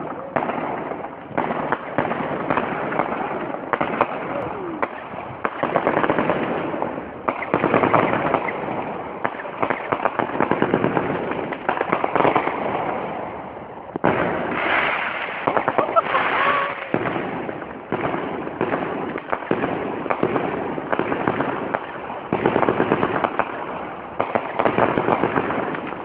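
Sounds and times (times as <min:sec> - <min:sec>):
fireworks shots bursting: 0:00.0 - 0:26.0.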